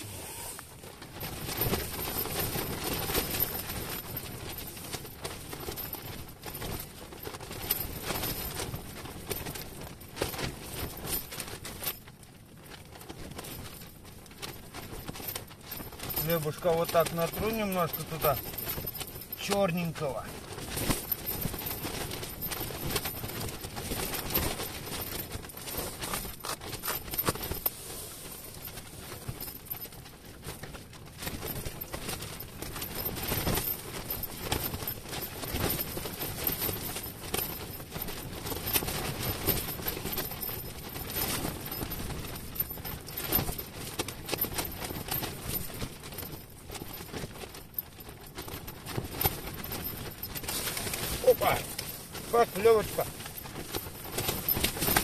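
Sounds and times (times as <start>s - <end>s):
tent fabric flapping: 0.0s - 55.0s.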